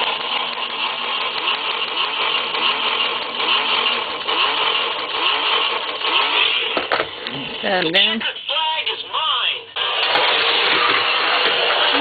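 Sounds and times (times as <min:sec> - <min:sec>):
toy electronic engine revving: 0:00.0 - 0:08.1, 0:09.7 - 0:12.0.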